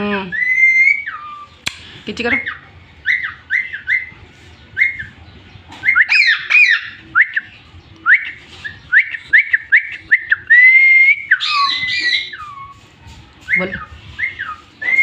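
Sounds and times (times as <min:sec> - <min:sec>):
parrot whistling and squawking: 0:00.3 - 0:01.6, 0:02.4 - 0:04.2, 0:04.8 - 0:05.2, 0:05.8 - 0:12.8, 0:13.5 - 0:15.0.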